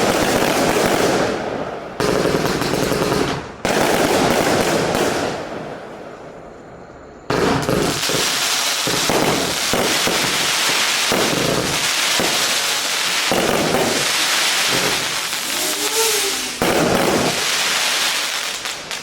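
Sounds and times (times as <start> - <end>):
fireworks volley with crackling: 0.0 - 19.0.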